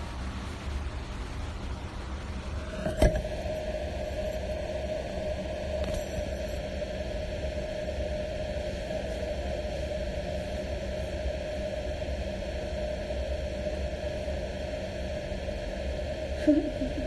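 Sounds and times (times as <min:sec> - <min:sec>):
constant hiss: 0:00.0 - 0:17.0
steady background hum: 0:00.0 - 0:17.0.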